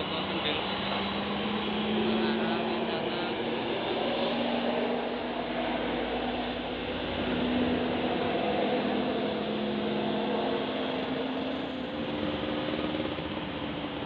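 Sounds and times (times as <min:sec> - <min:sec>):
diesel bus engine under load: 0:00.0 - 0:14.0.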